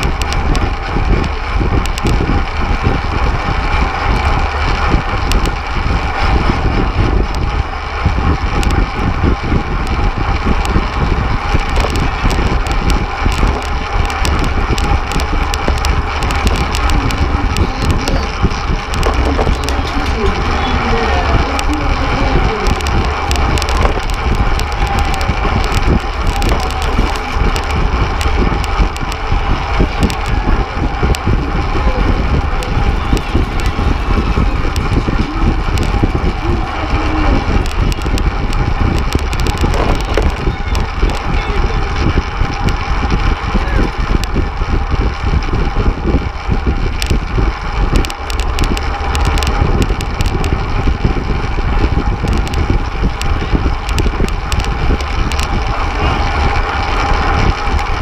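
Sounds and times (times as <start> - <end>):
bike tyres and drivetrains humming: 0.0 - 58.0
wind buffeting microphone: 0.0 - 58.0.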